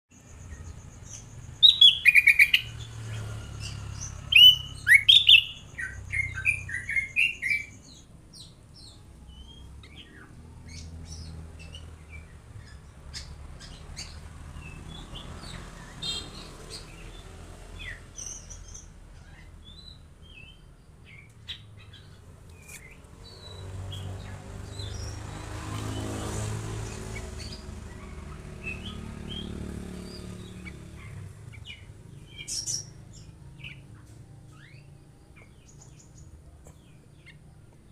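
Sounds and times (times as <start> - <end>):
small songbird chirping: 0.1 - 37.9.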